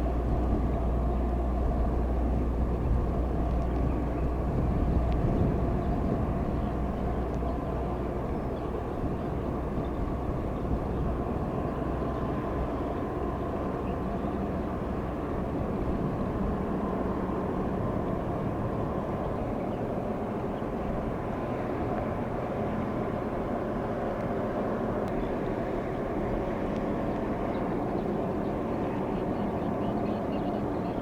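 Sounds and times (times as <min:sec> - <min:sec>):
ship engine drone: 0:00.0 - 0:31.0.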